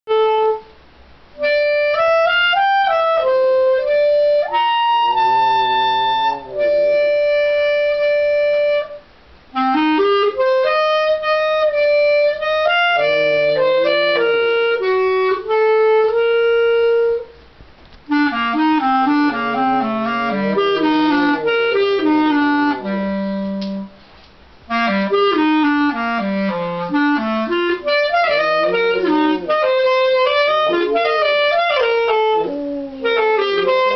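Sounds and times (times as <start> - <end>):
clarinet melody: 0.1 - 0.8, 1.4 - 17.4, 18.1 - 33.9.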